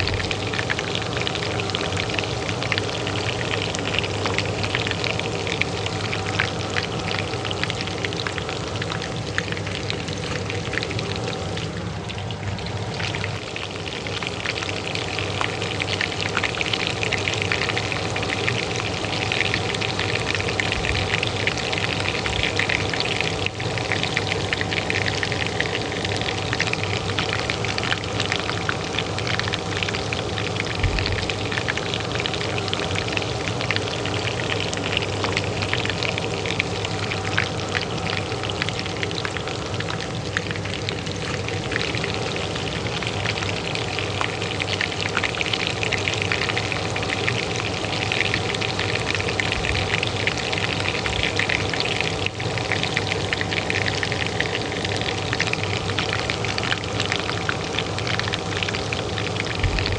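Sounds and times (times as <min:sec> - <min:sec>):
hot oil frying: 0:00.0 - 0:59.9
range hood fan humming: 0:00.0 - 0:59.9.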